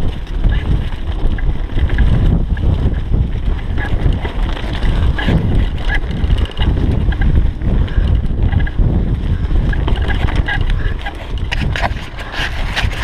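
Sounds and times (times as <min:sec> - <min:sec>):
bike knocks and rattles: 0:00.0 - 0:13.0
mountain bike rumbling on dirt trail: 0:00.0 - 0:13.0
wind buffeting microphone: 0:00.0 - 0:13.0.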